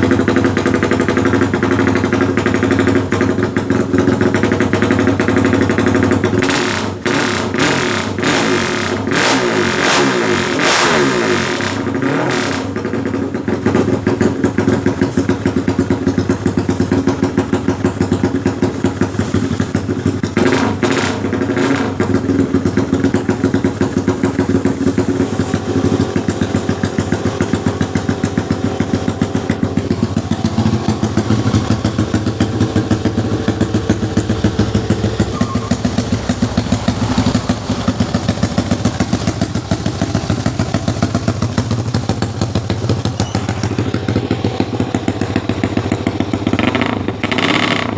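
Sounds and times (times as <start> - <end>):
motorcycle engine revving and idling: 0.0 - 47.9.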